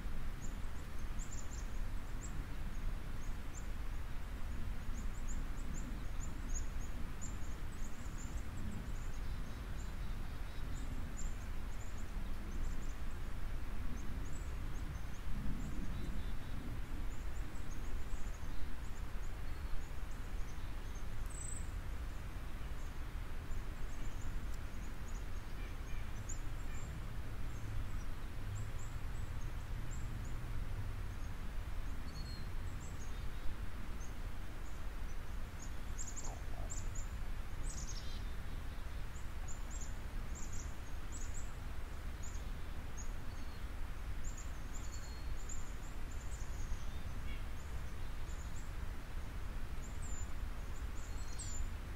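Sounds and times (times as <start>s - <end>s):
small birds chirping: 0.0s - 30.5s, 31.1s - 51.9s.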